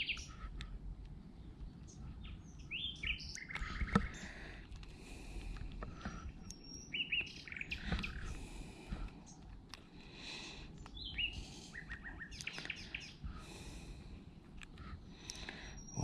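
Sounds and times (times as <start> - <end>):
small birds singing: 0.0 - 16.0.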